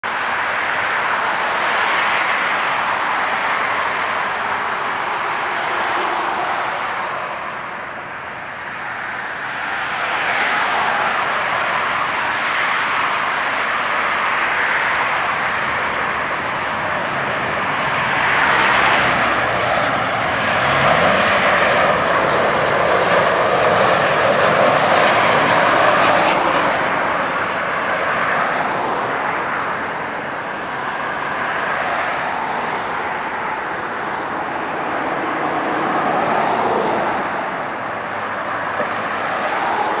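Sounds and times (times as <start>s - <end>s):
jet airliner landing: 0.1s - 40.0s.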